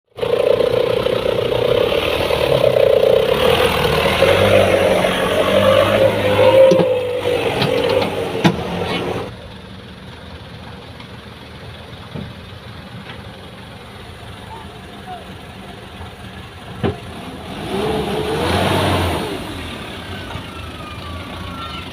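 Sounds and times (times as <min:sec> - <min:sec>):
diesel machinery engine running: 0:00.1 - 0:21.9.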